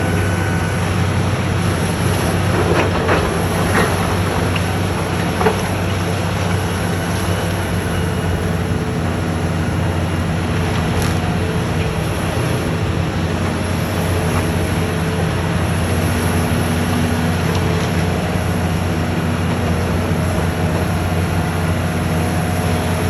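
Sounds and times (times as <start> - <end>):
excavator diesel engine running: 0.0 - 23.0
cracking and crunching: 1.8 - 22.0.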